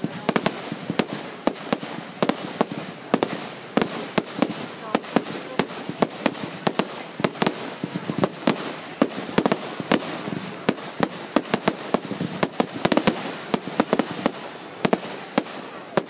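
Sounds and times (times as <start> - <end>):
fireworks banging: 0.0 - 16.0
fireworks crackling: 0.0 - 16.0.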